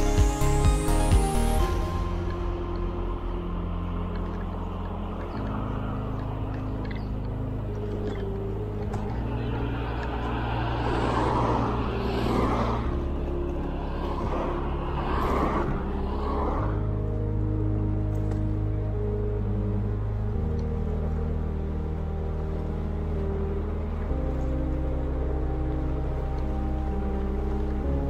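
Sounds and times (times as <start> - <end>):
cars passing: 0.0 - 28.0
low background music: 0.0 - 28.0.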